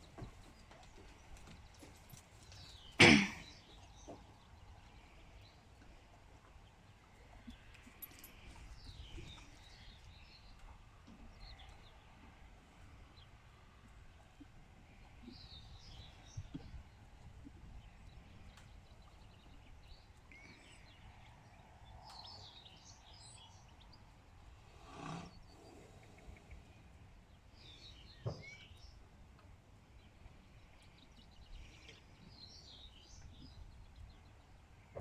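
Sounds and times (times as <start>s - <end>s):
low steady background noise: 0.0s - 35.0s
songbirds chirping: 0.0s - 35.0s.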